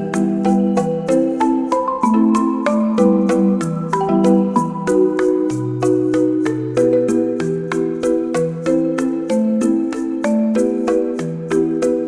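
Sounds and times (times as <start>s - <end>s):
bright light tune with mallet notes: 0.0s - 12.0s.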